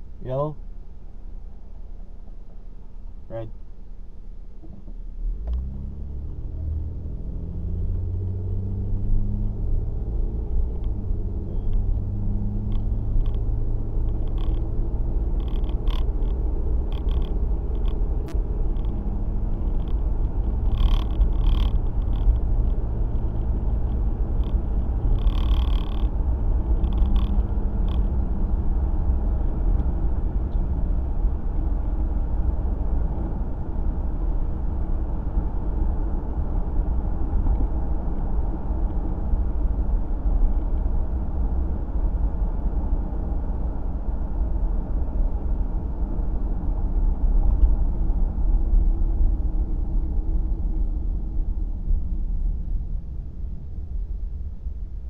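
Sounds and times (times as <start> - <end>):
car driving: 0.0 - 55.0.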